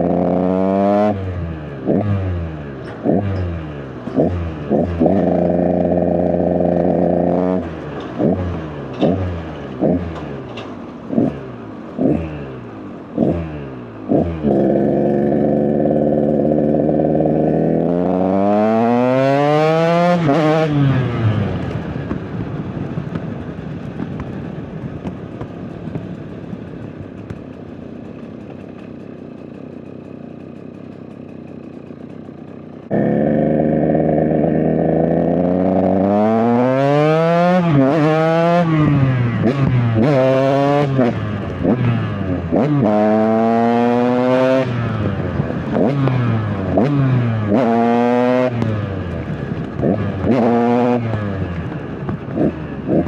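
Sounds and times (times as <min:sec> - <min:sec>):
dirt bike engine revving: 0:00.0 - 0:10.5, 0:11.1 - 0:21.8, 0:28.6 - 0:53.0.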